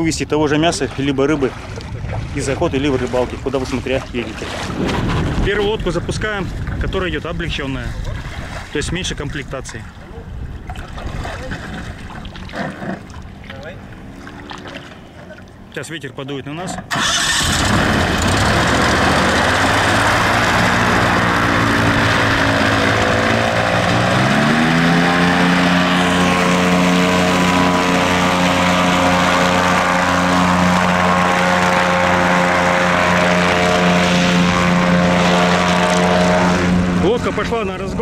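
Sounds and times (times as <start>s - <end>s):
airboat engine and propeller: 0.0s - 38.0s.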